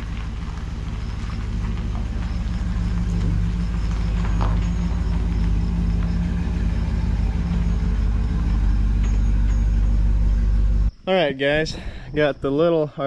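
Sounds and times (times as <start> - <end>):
vehicle engine running: 0.0 - 12.3.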